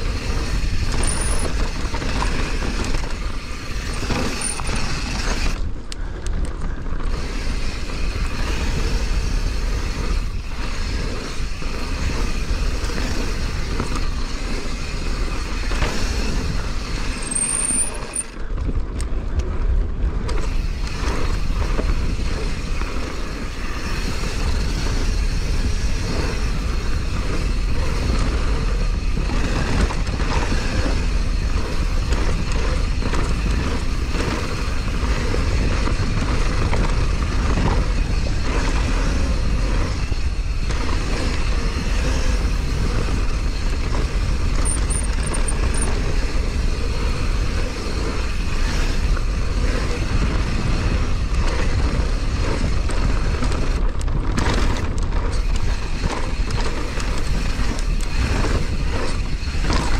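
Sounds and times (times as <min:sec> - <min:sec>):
bike chain and frame rattling: 0:00.0 - 0:59.9
bike tyres on dirt and rock: 0:00.0 - 0:59.9
wind rumble on microphone: 0:00.0 - 0:59.9.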